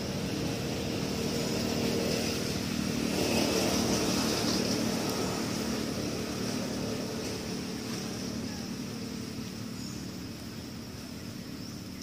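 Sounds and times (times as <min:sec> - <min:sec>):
distant engine humming: 0:00.0 - 0:12.0.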